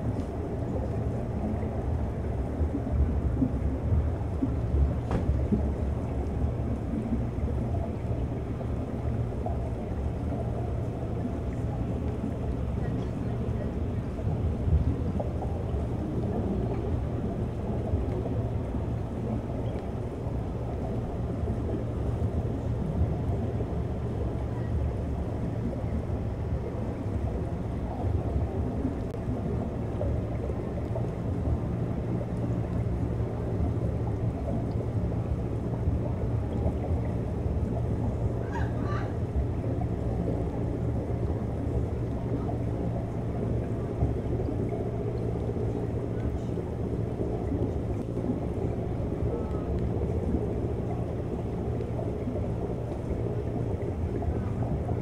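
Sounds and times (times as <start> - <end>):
constant low hum: 0.0 - 55.0
underwater water rumble: 0.0 - 55.0.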